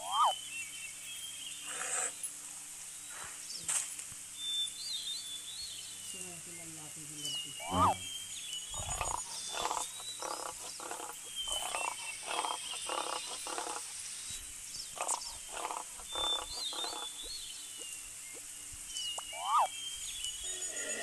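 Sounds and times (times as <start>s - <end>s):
frogs croaking: 0.0s - 0.5s, 1.6s - 2.4s, 4.9s - 21.0s
birds chirping: 0.0s - 21.0s.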